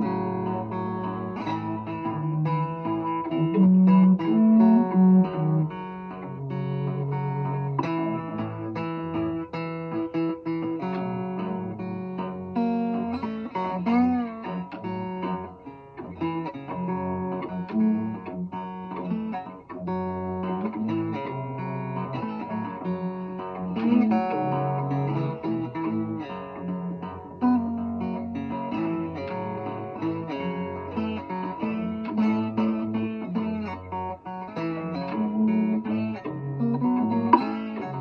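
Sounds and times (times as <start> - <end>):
slide guitar blues: 0.0 - 38.0.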